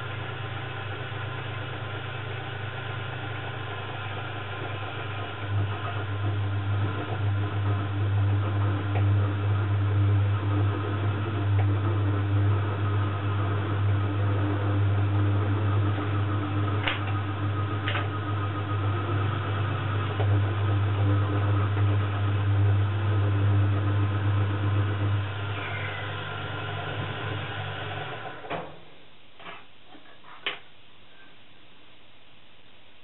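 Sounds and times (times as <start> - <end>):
lathe humming: 0.0 - 28.5.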